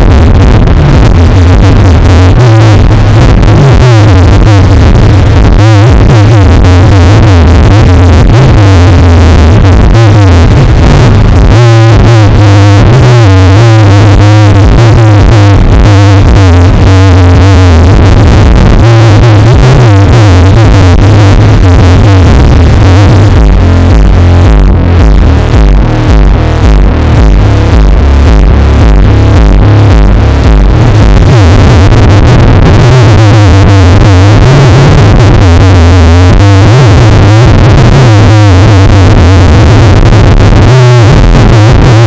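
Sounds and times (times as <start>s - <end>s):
bass-boosted electronic music: 0.0s - 42.0s.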